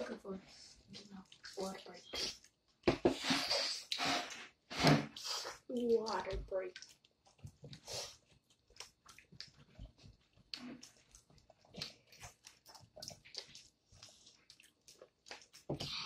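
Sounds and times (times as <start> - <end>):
chewing: 0.8 - 2.8, 5.2 - 16.0.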